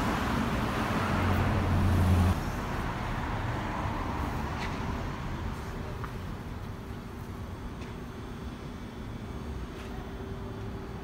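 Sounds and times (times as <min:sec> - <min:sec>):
steady traffic hiss: 0:00.0 - 0:11.0.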